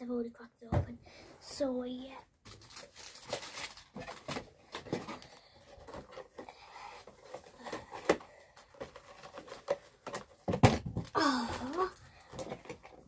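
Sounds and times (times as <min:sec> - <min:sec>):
objects tapping and knocking: 0:02.4 - 0:13.0.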